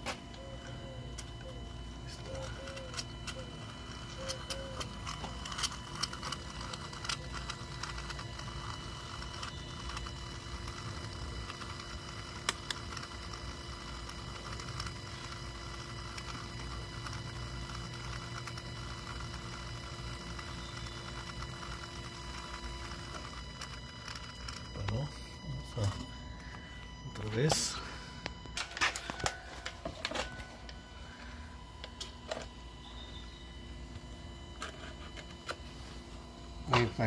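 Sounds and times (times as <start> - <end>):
fuel pump humming: 0.0 - 37.0.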